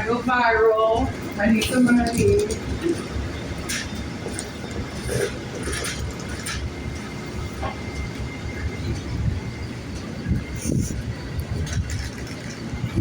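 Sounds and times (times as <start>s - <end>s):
large vehicle rumbling: 0.0s - 13.0s.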